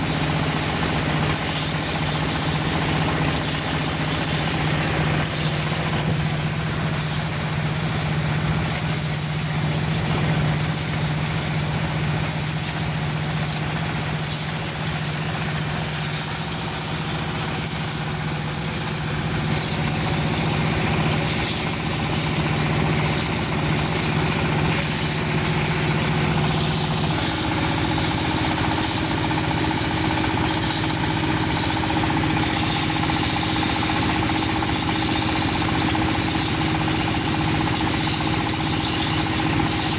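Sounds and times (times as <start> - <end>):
dowel machine humming: 0.0 - 39.9
high hiss: 0.0 - 39.9.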